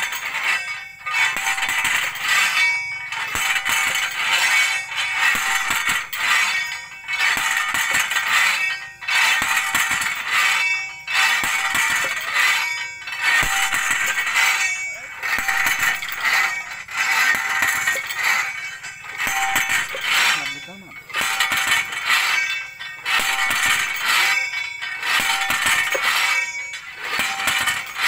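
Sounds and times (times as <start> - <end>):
drop weight clanging on pipe: 0.0 - 28.0.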